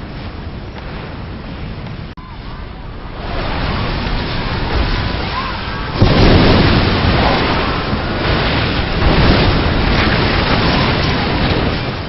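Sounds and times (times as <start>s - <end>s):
stormy sea rushing: 0.0s - 12.0s
waves crashing: 0.0s - 12.0s.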